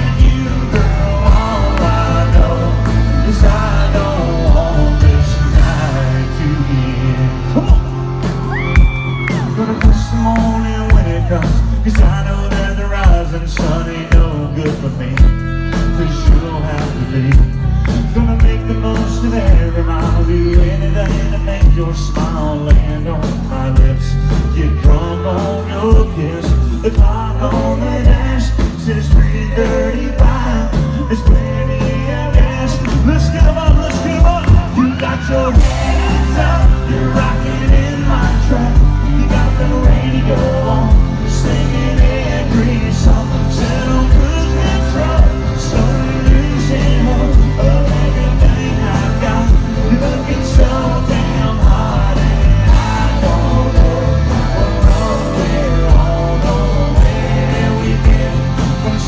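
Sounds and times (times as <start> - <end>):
country rock band playing: 0.0 - 59.0
person singing: 0.0 - 59.0
steady drum beat: 0.0 - 59.0.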